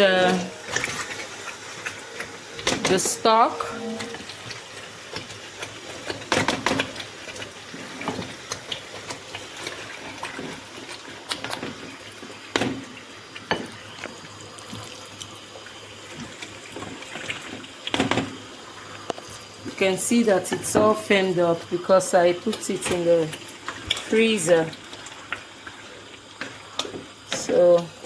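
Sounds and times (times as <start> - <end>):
water running: 0.0 - 28.0.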